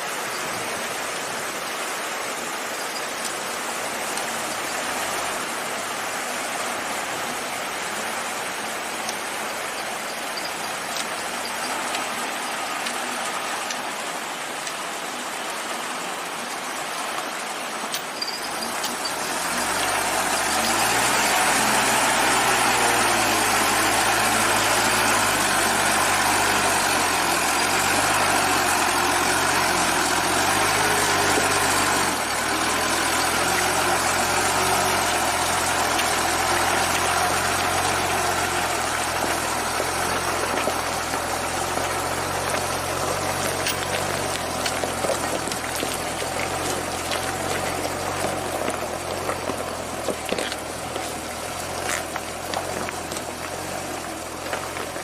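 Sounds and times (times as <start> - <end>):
truck engine running at low revs: 0.0 - 55.0.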